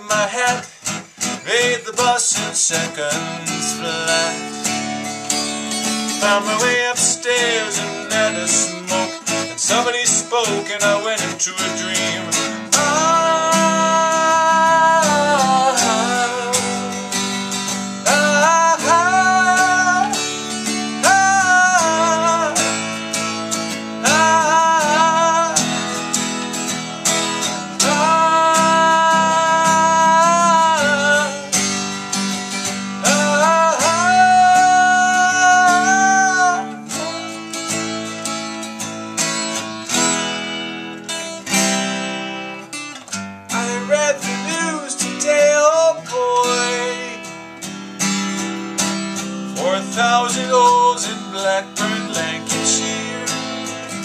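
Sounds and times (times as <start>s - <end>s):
man singing wordless notes: 0.0s - 5.1s, 5.8s - 38.0s, 43.5s - 47.5s, 49.5s - 54.0s
strummed acoustic guitar: 0.0s - 54.0s.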